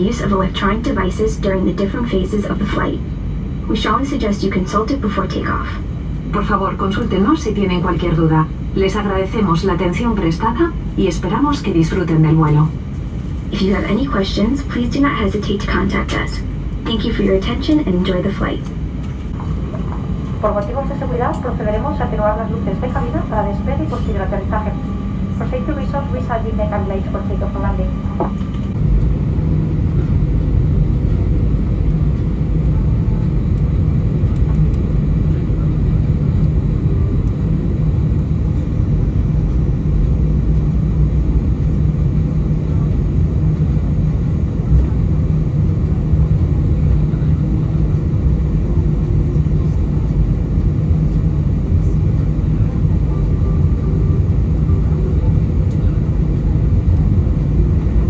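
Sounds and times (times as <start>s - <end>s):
aircraft engine rumble: 0.0s - 58.0s
constant hum: 0.0s - 58.0s.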